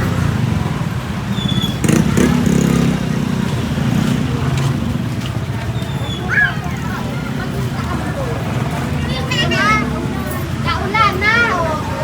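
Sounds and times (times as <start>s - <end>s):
street traffic: 0.0s - 12.0s
vehicle engine running: 0.0s - 12.0s.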